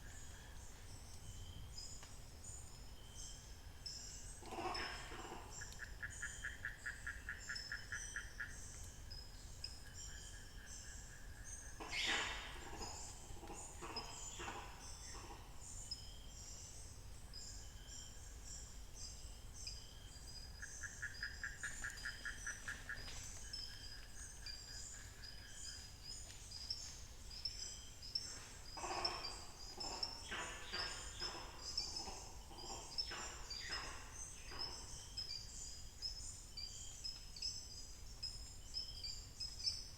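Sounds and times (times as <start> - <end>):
forest birds and insects: 0.0 - 39.9
loud full bird calls: 0.0 - 39.9.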